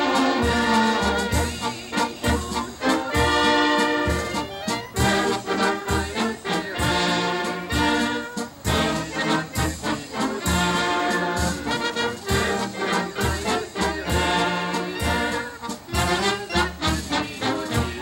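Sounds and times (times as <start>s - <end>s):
brass band playing lively tune: 0.0s - 18.0s.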